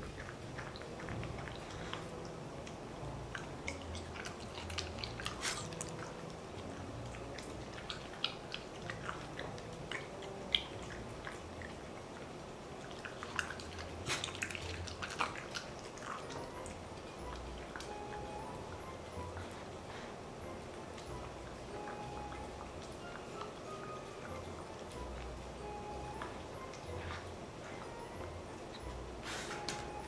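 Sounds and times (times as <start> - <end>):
dog licking and chewing: 0.0 - 30.0.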